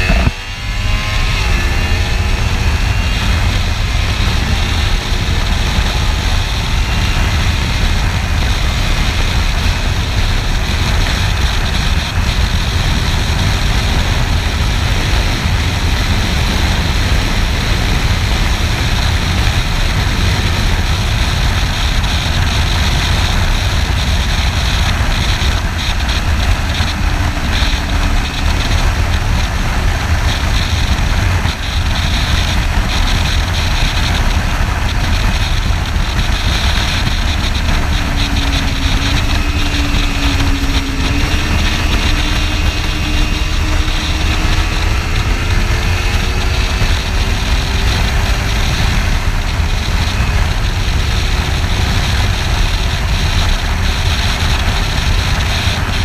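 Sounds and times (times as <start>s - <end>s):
faint motorcycle engine: 0.0s - 56.0s
wind on microphone: 0.0s - 56.0s.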